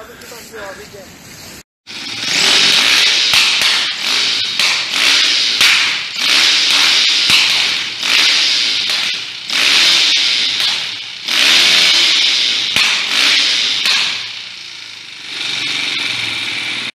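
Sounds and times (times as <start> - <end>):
dirt bike engine revving: 1.9 - 16.9.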